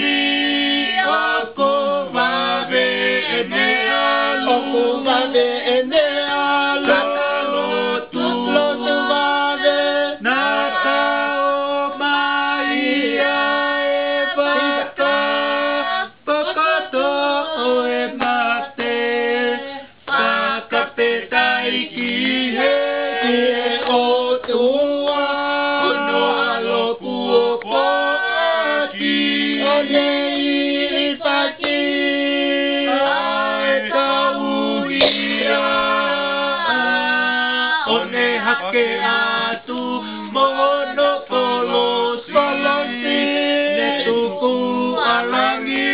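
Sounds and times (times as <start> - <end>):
group of voices singing: 0.0 - 45.9.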